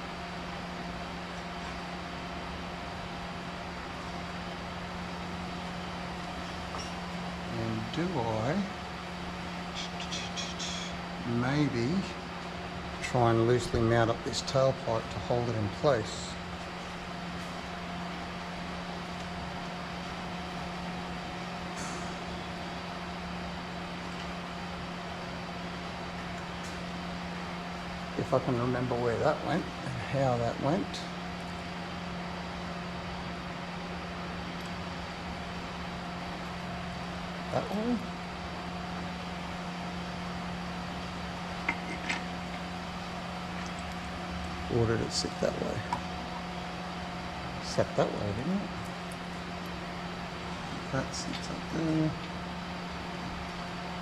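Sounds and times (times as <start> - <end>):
low motor hum: 0.0 - 54.0.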